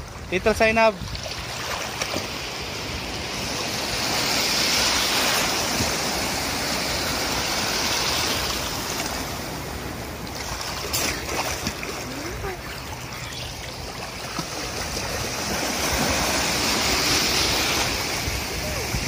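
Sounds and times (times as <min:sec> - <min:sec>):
small waves washing in: 0:00.0 - 0:19.0.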